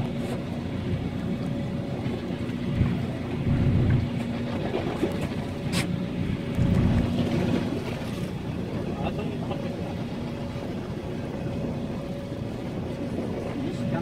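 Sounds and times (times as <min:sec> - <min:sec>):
boat engine running: 0:00.0 - 0:14.0
wind rumble on microphone: 0:00.0 - 0:14.0.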